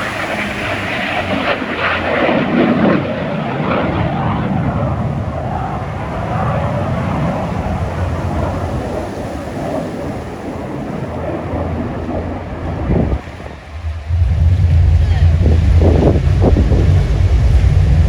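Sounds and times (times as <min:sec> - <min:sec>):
aircraft flying past: 0:00.0 - 0:18.0.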